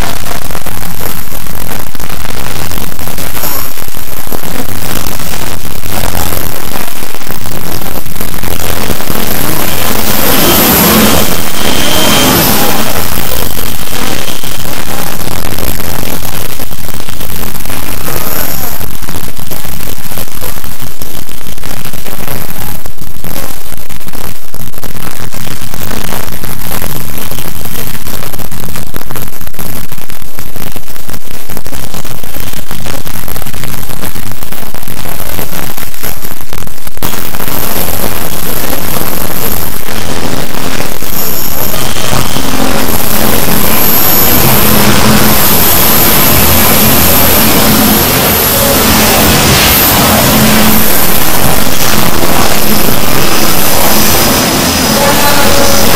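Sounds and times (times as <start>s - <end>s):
distorted wall of noise: 0.0s - 55.9s.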